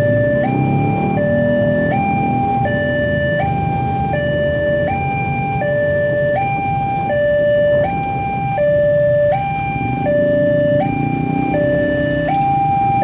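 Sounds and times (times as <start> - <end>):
low rumble of road traffic: 0.0 - 13.0
two-tone crossing alarm: 0.0 - 13.0.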